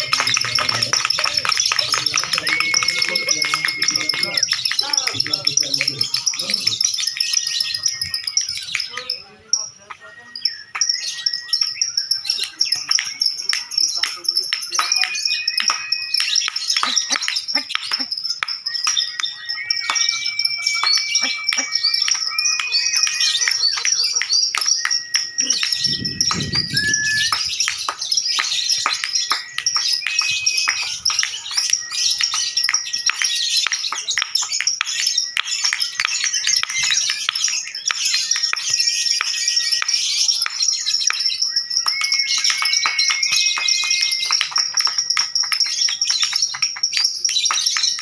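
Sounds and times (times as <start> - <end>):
lovebirds chattering: 0.0 - 48.0
whistle-like bird notes: 0.0 - 48.0.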